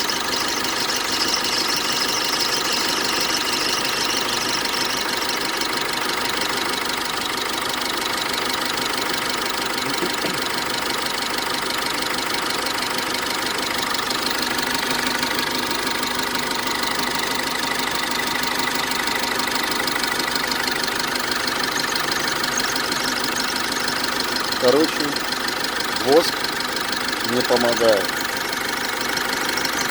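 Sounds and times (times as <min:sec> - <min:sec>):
diesel engine idling: 0:00.0 - 0:29.9
drive belt squealing: 0:00.0 - 0:29.9.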